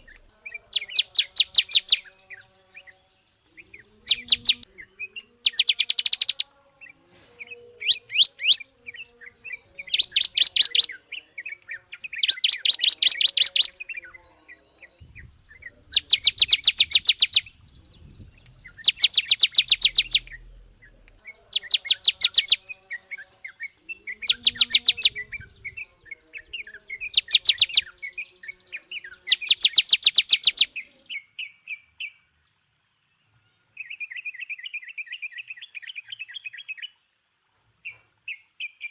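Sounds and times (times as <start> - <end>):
bird singing rapid trills: 0.0 - 7.0, 7.6 - 32.2
soft bird chirps: 0.0 - 38.9.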